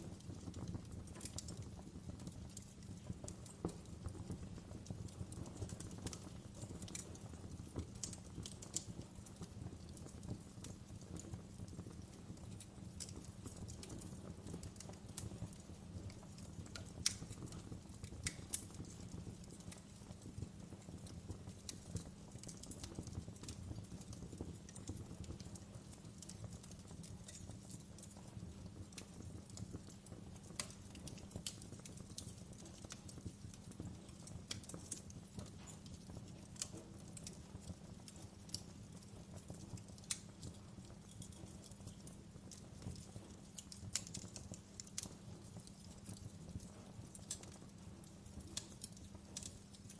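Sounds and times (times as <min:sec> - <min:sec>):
low rumble of burning logs: 0:00.0 - 0:49.9
wood fire crackling: 0:00.0 - 0:49.9.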